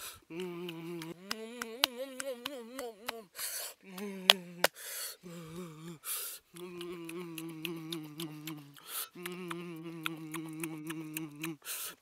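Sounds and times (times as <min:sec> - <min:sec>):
man humming: 0:00.0 - 0:11.7
breathy exhalations: 0:00.0 - 0:12.0
mouth clicks: 0:00.0 - 0:12.0.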